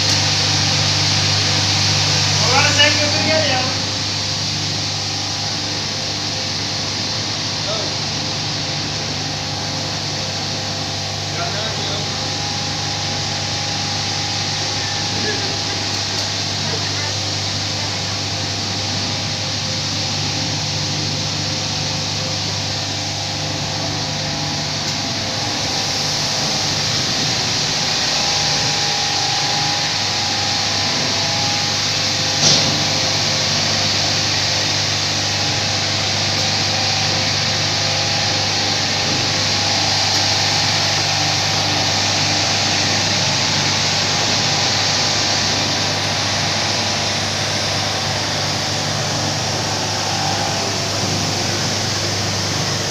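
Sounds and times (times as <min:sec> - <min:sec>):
carpet-washing machine running: 0:00.0 - 0:52.9.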